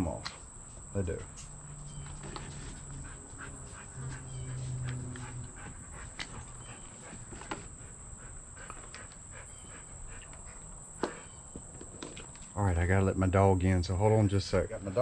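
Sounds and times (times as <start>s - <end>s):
crickets chirring: 0.0s - 15.0s
low drawn-out hum: 0.0s - 15.0s.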